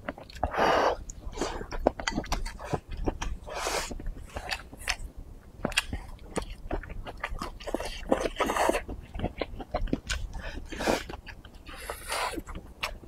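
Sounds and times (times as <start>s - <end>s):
man chewing wet mouth noises: 0.0s - 13.0s.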